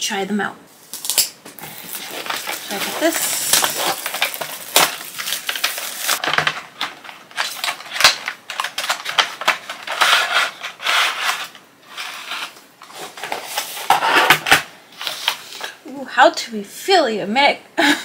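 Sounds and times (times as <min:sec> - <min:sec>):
plastic shrink wrap crinkling: 0:00.8 - 0:15.4
cardboard packaging rustling: 0:00.9 - 0:15.5.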